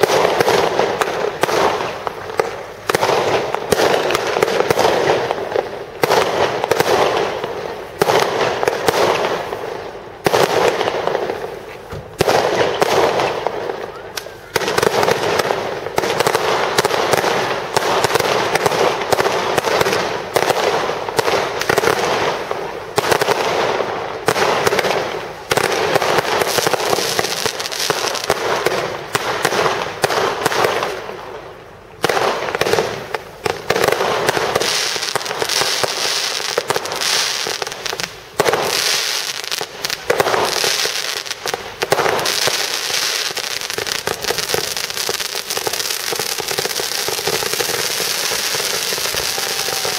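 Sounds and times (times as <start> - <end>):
fireworks popping and crackling: 0.0 - 49.9.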